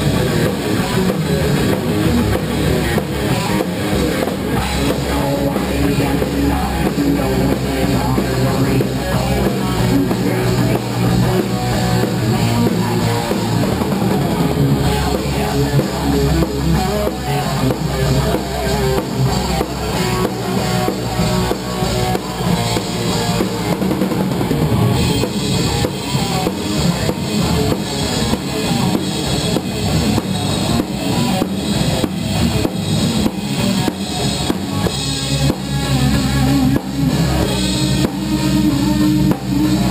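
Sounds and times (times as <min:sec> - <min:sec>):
bass drum and snare: 0:00.0 - 0:39.9
live rock band playing: 0:00.0 - 0:39.9.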